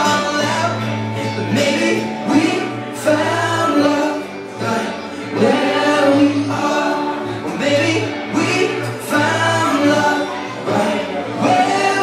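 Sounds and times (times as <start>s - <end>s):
amplified backing music: 0.0s - 12.0s
man singing into a microphone: 0.0s - 12.0s.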